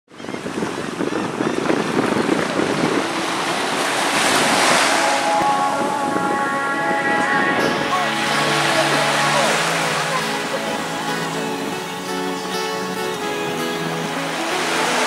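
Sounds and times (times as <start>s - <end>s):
wind buffeting microphone: 0.1s - 14.2s
waves washing ashore: 0.1s - 15.0s.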